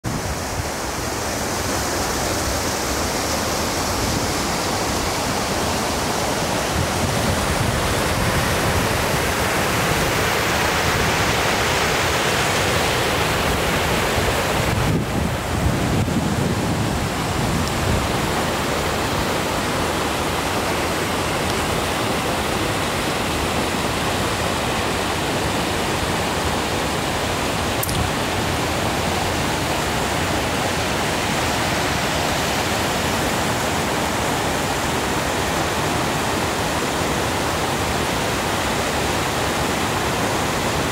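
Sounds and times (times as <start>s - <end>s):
waterfall rushing over rocks: 0.0s - 40.9s.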